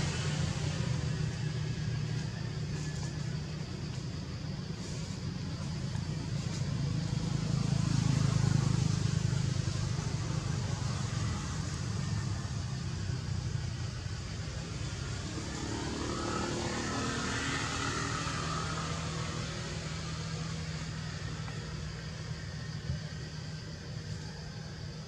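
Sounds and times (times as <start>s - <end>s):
motor vehicle rumble: 0.0s - 25.0s.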